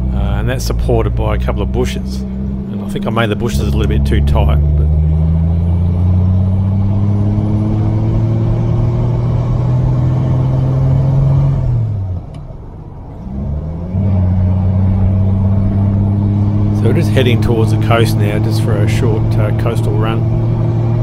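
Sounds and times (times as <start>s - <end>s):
car engine pulling: 0.0s - 21.0s.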